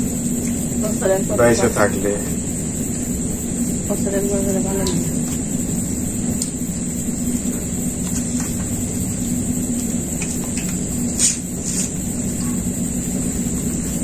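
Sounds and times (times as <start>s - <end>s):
background hum: 0.0s - 14.0s
high-pitched hiss: 0.0s - 14.0s.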